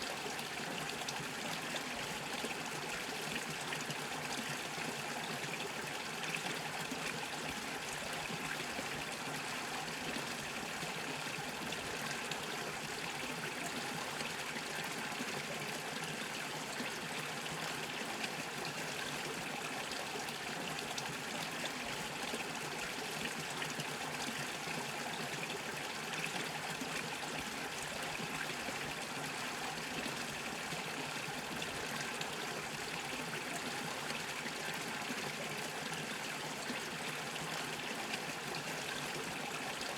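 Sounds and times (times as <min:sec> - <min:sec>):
brook trickling over stones: 0:00.0 - 0:39.9.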